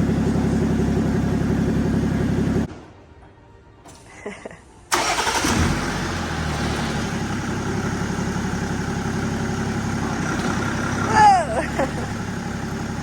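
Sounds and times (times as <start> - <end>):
diesel engine starting and idling: 0.0 - 2.7, 4.9 - 13.0.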